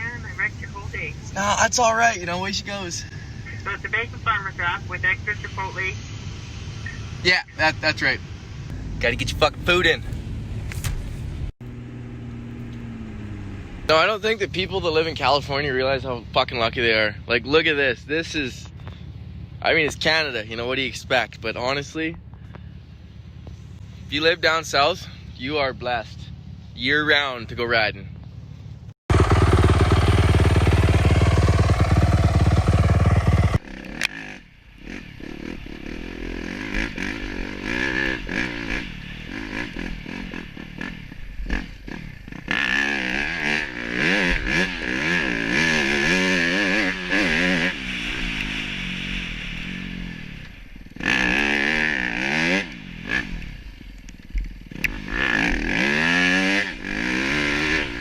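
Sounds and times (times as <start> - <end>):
motorbike engines revving: 0.0 - 58.0.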